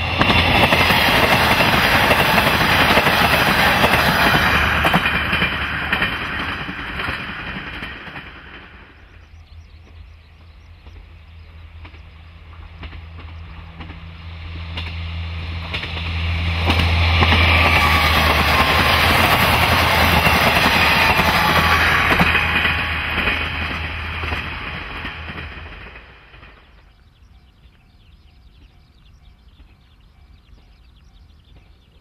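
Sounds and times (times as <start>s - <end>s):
diesel railcar engine drone: 0.0s - 32.0s
rush of wheels on rail: 0.0s - 32.0s
wheels clicking over rail joints: 0.0s - 32.0s.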